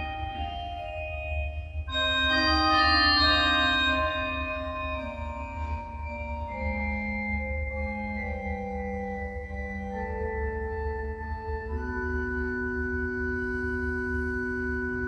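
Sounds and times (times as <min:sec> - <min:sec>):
organ playing sustained chords: 0:00.0 - 0:15.0.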